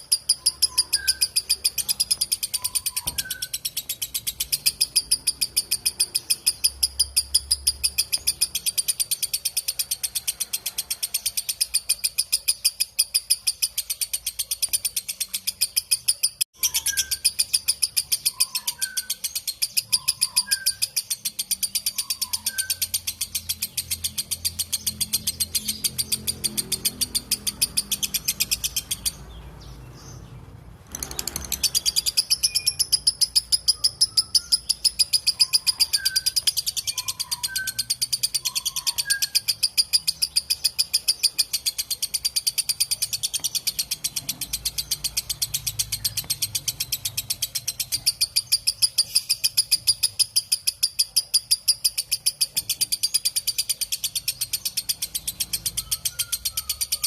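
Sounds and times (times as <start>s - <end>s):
bird shrill chattering trill: 0.0s - 29.2s, 30.9s - 57.0s
faint bird chirps: 0.0s - 57.0s.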